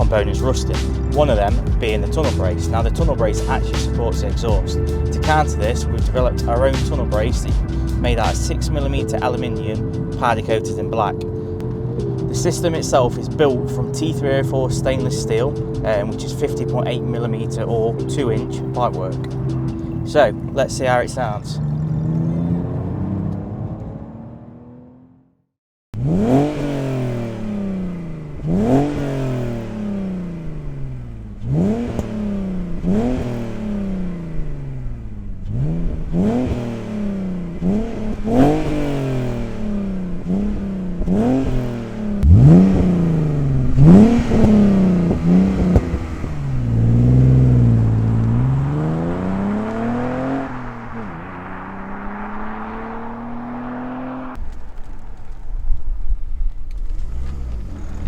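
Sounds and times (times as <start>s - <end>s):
car engine revving: 0.0s - 25.3s, 26.0s - 54.4s.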